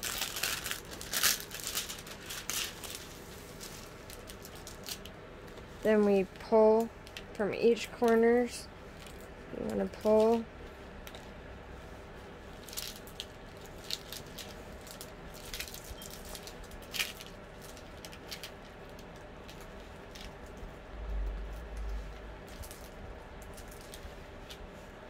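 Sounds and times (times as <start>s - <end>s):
faint hum: 0.0s - 25.0s
plastic film crackling and rustling: 0.0s - 25.0s.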